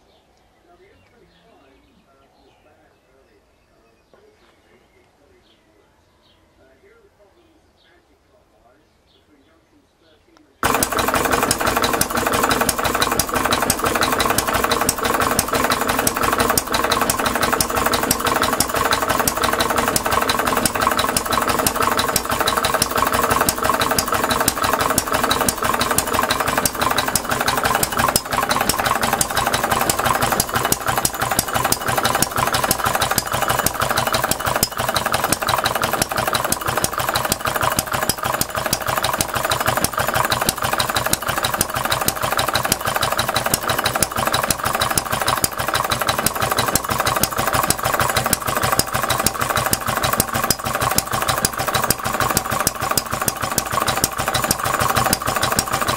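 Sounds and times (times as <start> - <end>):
model engine running fast: 10.6 - 55.9.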